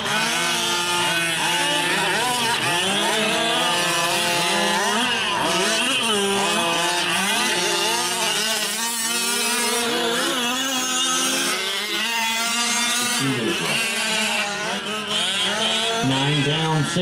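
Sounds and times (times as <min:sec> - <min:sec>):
small two-stroke engines revving: 0:00.0 - 0:17.0.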